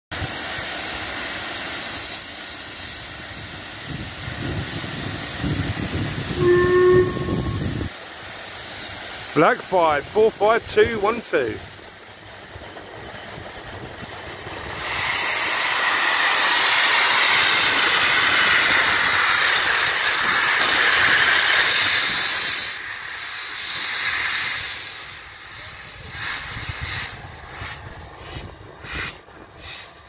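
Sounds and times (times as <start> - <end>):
steam locomotive hissing: 0.1 - 30.0.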